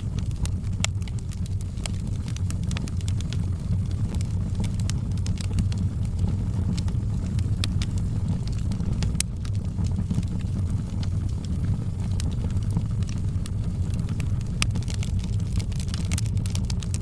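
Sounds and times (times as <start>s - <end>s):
fire crackling and popping: 0.0s - 17.0s
wood fire rumbling: 0.0s - 17.0s.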